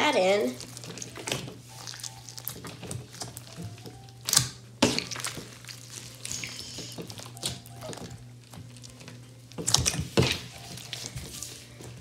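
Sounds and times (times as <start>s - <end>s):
slime squishing: 0.0s - 12.0s.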